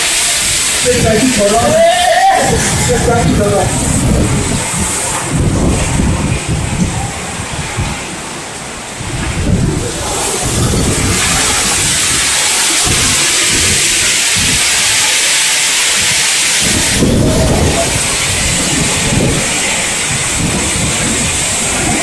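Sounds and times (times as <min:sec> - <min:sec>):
heavy rain and hail: 0:00.0 - 0:22.0
wind gusts on microphone: 0:00.0 - 0:22.0.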